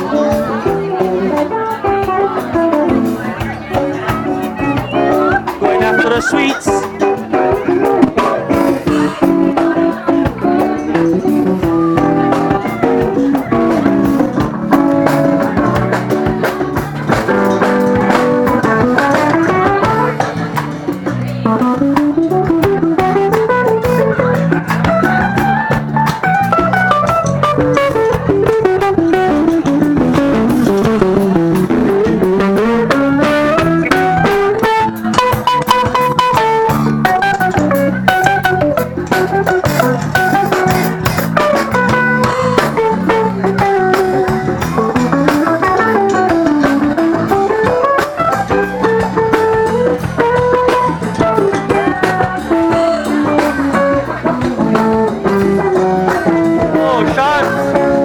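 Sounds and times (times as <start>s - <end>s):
bass guitar: 0.0s - 58.0s
drum kit: 0.0s - 58.0s
electric guitar melody: 0.0s - 58.0s.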